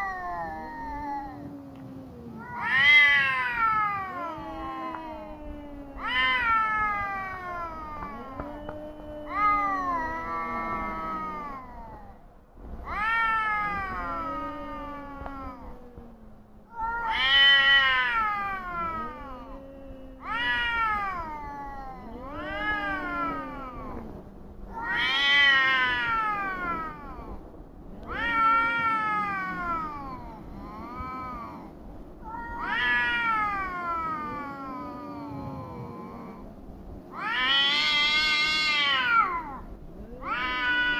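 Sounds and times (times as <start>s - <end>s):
cats yowling: 0.0s - 12.2s, 12.8s - 40.9s
low steady moaning: 0.0s - 40.9s.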